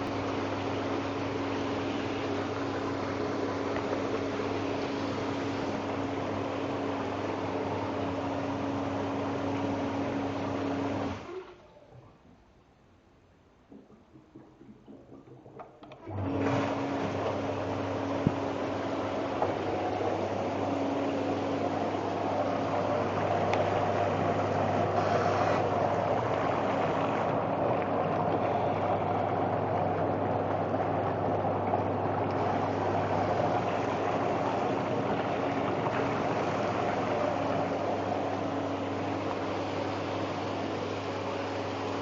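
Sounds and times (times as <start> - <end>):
bathtub pump motor humming: 0.0 - 12.1, 13.6 - 42.0.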